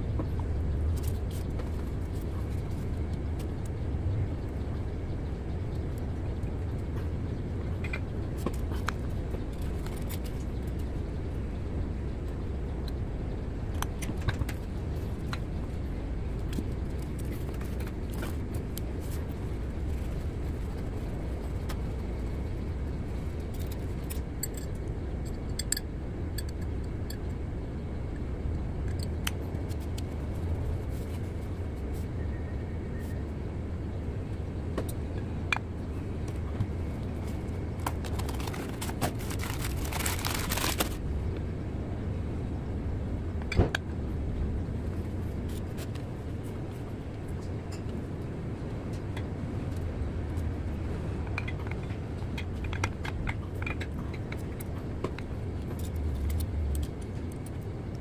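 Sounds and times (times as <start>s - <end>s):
low background rumble: 0.0s - 58.0s.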